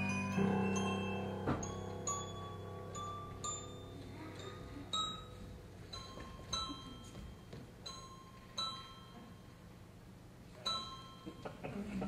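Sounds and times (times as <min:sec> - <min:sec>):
bell-like waltz notes: 0:00.0 - 0:09.8, 0:10.6 - 0:11.6.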